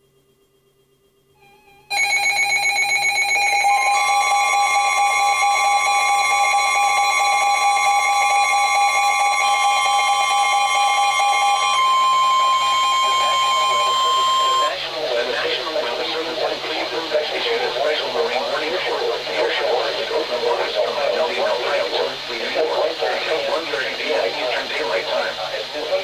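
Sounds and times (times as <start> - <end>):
piercing warning alarm tone: 1.9 - 26.0
buzzy data-burst signals: 2.7 - 26.0.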